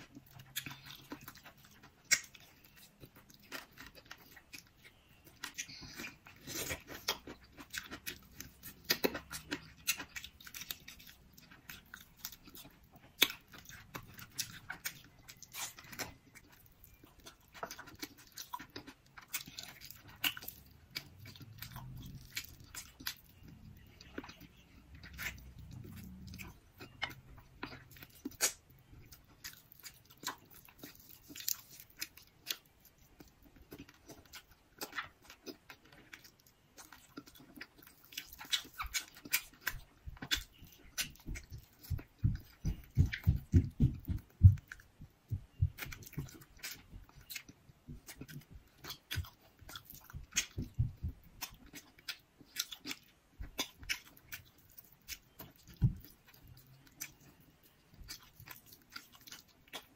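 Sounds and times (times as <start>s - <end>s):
low chewing thuds: 0.0s - 59.9s
person chewing: 0.0s - 59.9s.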